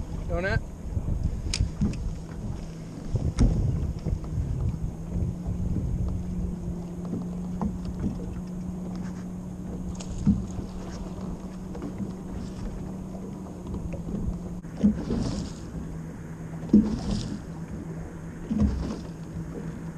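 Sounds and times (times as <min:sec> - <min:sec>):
electric trolling motor hum: 0:00.0 - 0:19.9
wind on microphone: 0:00.0 - 0:19.9.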